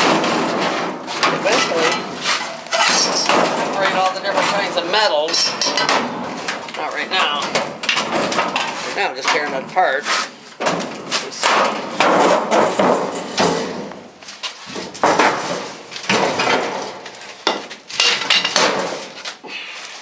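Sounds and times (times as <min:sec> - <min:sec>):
metal banging and clanking: 0:00.0 - 0:09.9, 0:10.6 - 0:14.1, 0:14.7 - 0:19.2.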